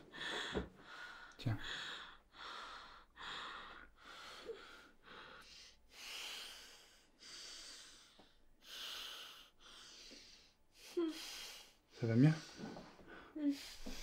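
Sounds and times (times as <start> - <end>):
woman breathing hard and fast: 0.0 - 14.0.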